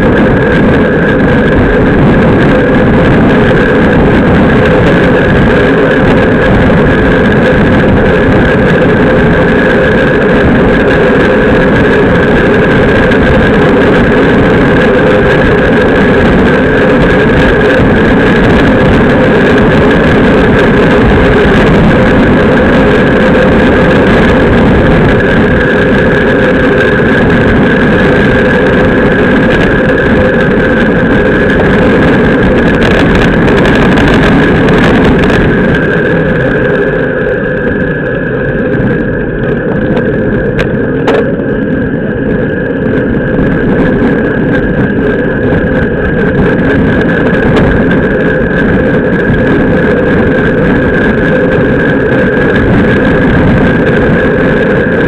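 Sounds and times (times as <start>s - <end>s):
tyres rumbling on asphalt: 0.0s - 55.0s
wind buffeting: 0.0s - 55.0s.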